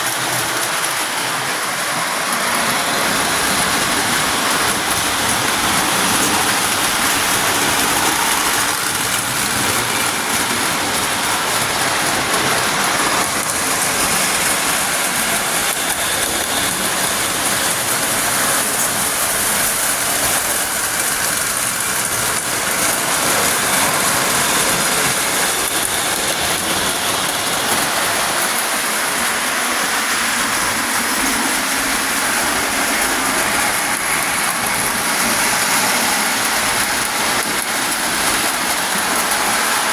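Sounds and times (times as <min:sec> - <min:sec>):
toy trains rattling on metal track: 0:00.0 - 0:39.9.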